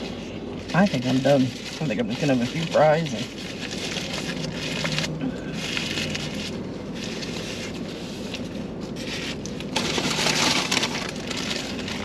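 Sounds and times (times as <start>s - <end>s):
packaging rustling: 0.7s - 12.0s.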